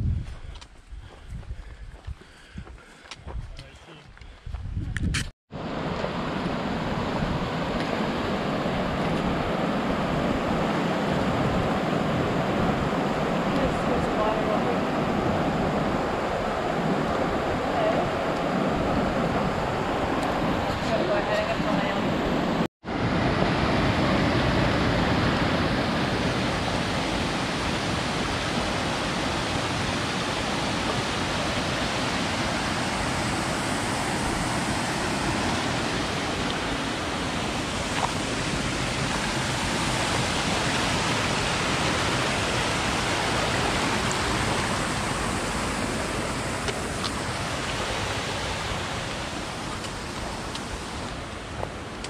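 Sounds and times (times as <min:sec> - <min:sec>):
creek water rushing: 0:05.5 - 0:52.0.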